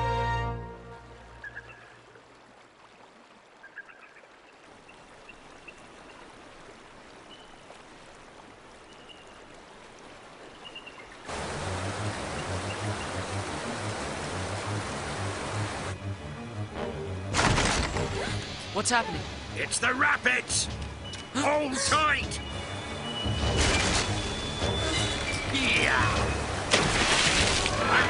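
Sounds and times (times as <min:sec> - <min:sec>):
river water flowing: 0:00.0 - 0:28.0
rapids rushing with deep rumble: 0:04.2 - 0:28.0.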